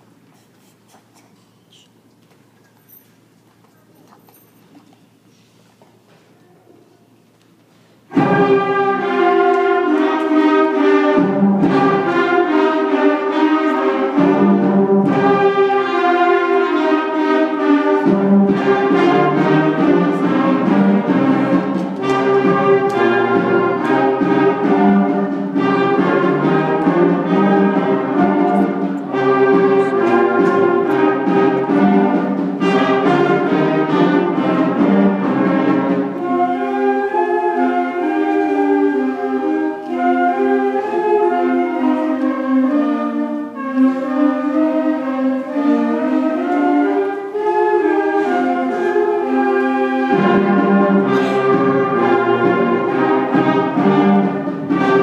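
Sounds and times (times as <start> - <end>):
concert band playing: 8.1 - 55.0.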